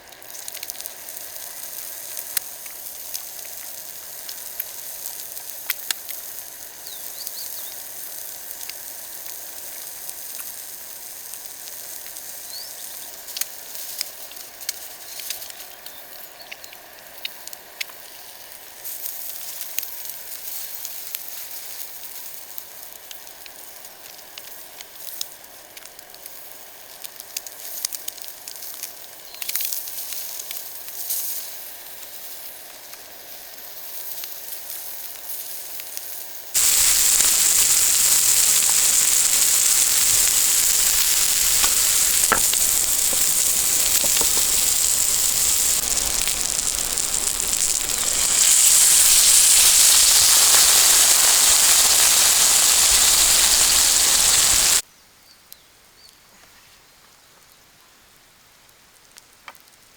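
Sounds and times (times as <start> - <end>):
loud steady hiss: 0.0 - 25.6, 26.2 - 54.8
crackles and pops: 0.0 - 54.8
food sizzling over fire: 0.0 - 54.9.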